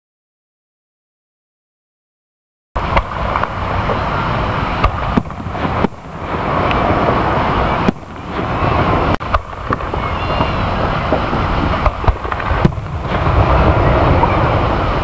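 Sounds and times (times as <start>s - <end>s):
fireworks bangs: 2.8s - 15.0s
steady rushing noise: 2.8s - 15.0s.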